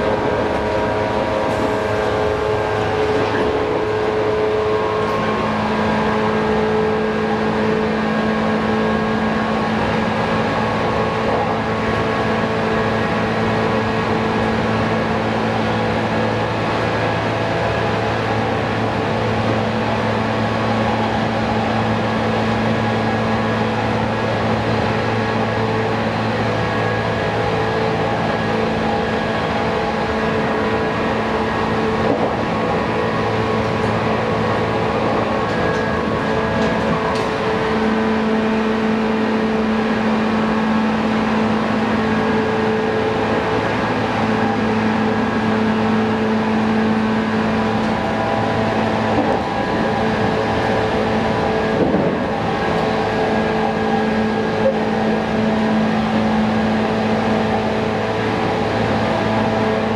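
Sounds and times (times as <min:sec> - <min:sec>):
electric train motor hum: 0:00.0 - 0:59.9
wheels rumbling on rail: 0:00.0 - 0:59.9.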